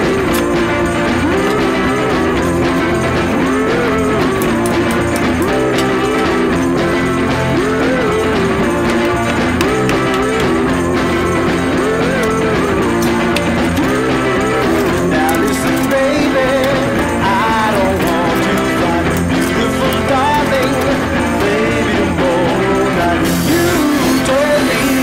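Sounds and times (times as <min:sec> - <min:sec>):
rock and roll music with guitar: 0:00.0 - 0:25.0.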